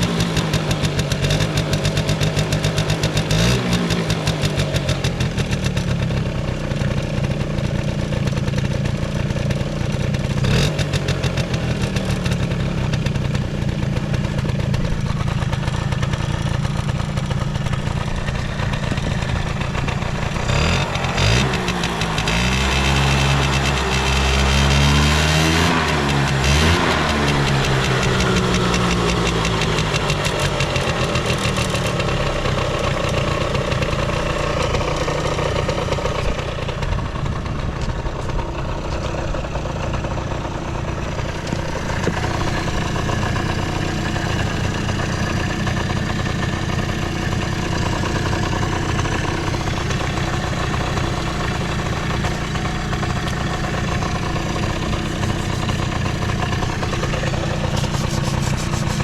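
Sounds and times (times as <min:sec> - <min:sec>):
scooter two-stroke engine idling: 0:00.0 - 0:59.0.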